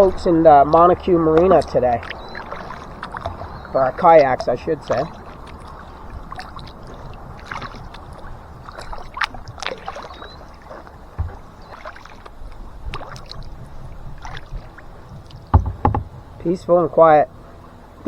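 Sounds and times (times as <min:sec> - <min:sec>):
kayak paddle splashing in water: 0:00.0 - 0:16.5
steady low rumble: 0:00.0 - 0:18.0.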